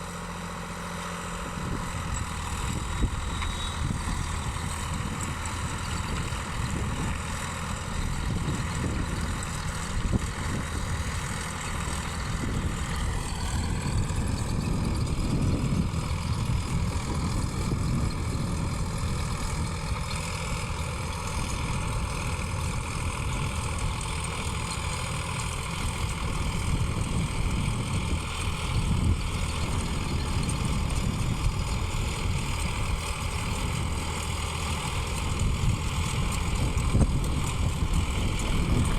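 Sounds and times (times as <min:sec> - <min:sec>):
tractor diesel engine rumbling: 0:00.0 - 0:38.9.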